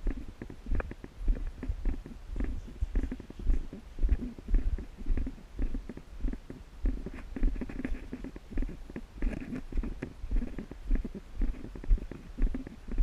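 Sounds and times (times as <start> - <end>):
clothing rustling against camera: 0.0 - 13.0
muffled footsteps: 0.0 - 13.0.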